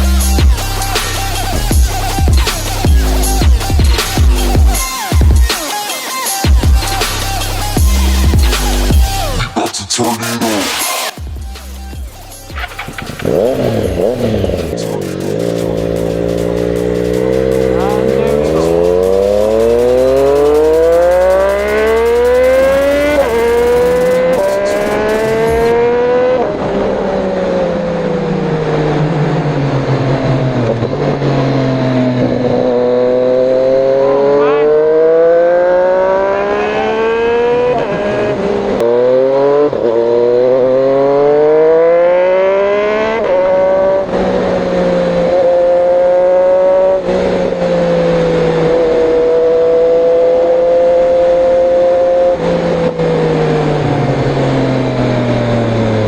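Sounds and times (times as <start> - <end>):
motorcycle engine revving: 0.0 - 9.6, 10.5 - 56.0.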